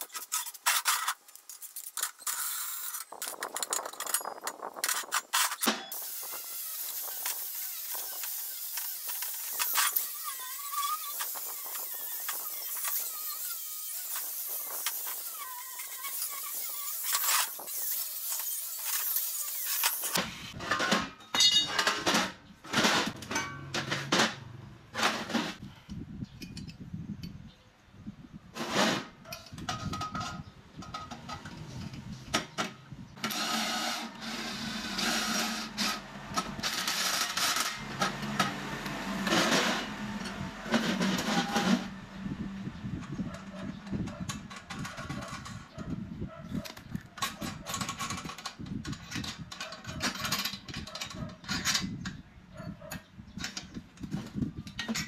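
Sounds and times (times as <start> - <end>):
steel parts clanking and scraping: 0.0 - 27.4, 28.6 - 38.6, 39.2 - 42.0, 42.8 - 45.7, 46.5 - 52.2, 52.9 - 55.0.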